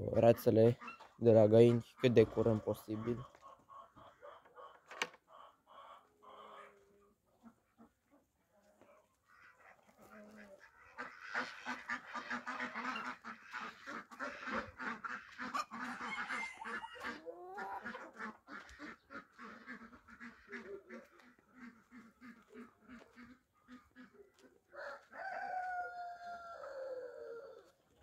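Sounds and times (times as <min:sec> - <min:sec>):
ducks quacking: 0:00.0 - 0:25.0
geese honking: 0:00.2 - 0:06.8, 0:09.2 - 0:25.3.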